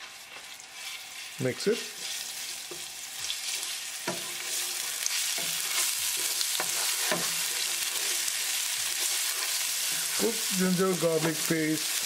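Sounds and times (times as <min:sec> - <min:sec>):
seeds and paste sizzling in oil: 0:00.0 - 0:12.0
spatula scraping pan: 0:00.0 - 0:12.0.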